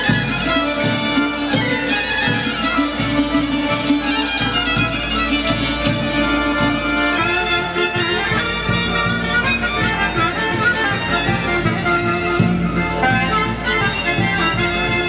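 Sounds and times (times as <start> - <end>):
accordion: 0.0 - 15.0
folk flute: 0.0 - 15.0
hammered dulcimer: 0.0 - 15.0
small drum beat: 0.0 - 15.0
violin: 0.0 - 15.0.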